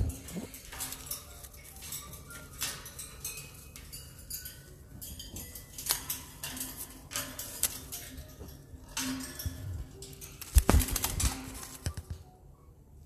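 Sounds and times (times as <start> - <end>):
parrot clicking on cage bars: 0.1 - 12.2.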